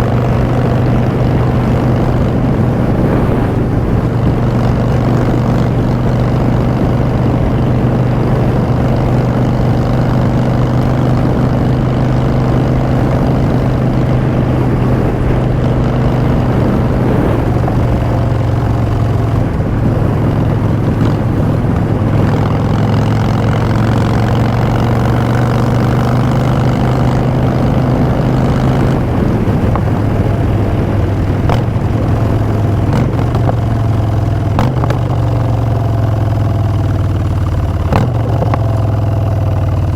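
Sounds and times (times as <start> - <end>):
motorcycle exhaust while cruising: 0.0 - 39.9.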